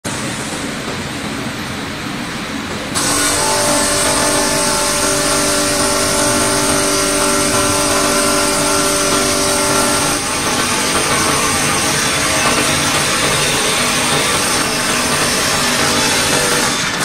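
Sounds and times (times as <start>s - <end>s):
vibratory feeder buzzing: 3.0s - 17.0s.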